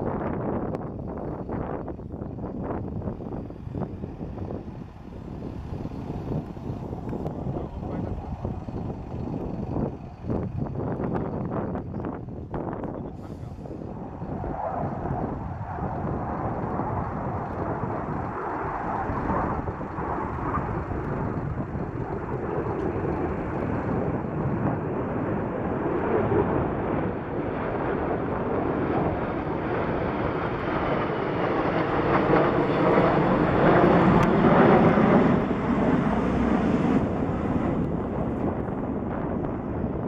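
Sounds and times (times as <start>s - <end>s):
jet aircraft flying over: 0.0s - 40.0s.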